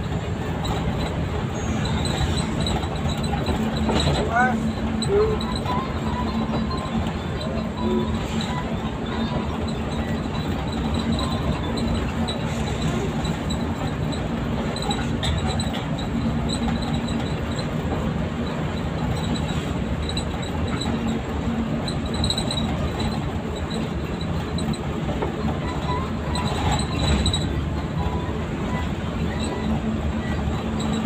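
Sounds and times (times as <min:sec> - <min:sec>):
bus engine drone: 0:00.0 - 0:31.0
road noise: 0:00.0 - 0:31.0
high-pitched body squeaks: 0:00.5 - 0:17.8, 0:18.4 - 0:31.0.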